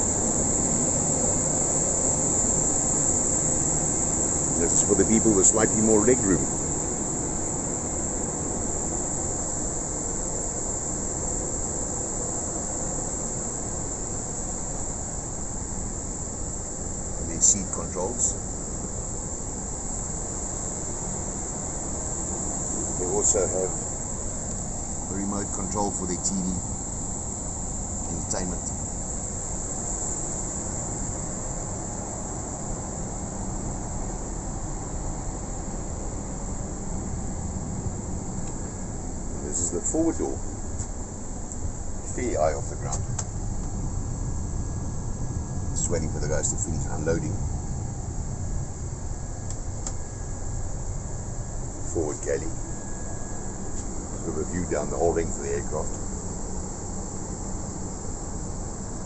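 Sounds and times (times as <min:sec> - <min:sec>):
cabin ventilation air rushing: 0:00.0 - 0:59.0
low hum: 0:00.0 - 0:59.0
steady high hiss: 0:00.0 - 0:59.0.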